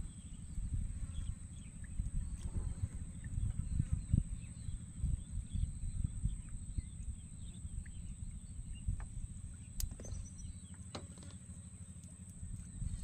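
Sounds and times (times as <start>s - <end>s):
faint bird chirps: 0.0s - 10.8s
low uneven rumble: 0.0s - 13.0s.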